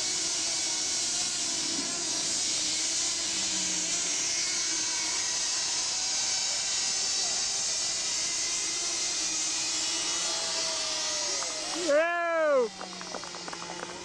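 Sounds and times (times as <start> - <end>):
miniature engines high-pitched whine: 0.0 - 14.0.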